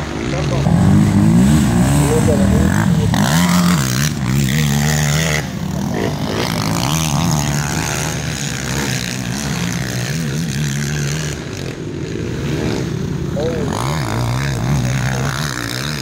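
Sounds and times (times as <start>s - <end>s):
quad engines revving: 0.0s - 16.0s.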